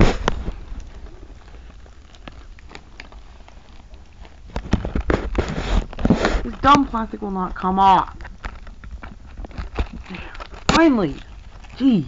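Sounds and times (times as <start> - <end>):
plastic shrink wrap crinkling: 0.0 - 12.0.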